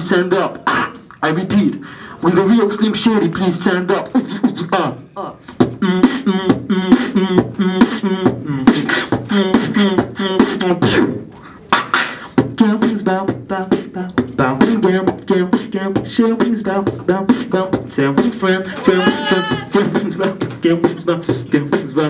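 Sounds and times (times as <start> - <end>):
beatboxing into a microphone: 0.0 - 22.0.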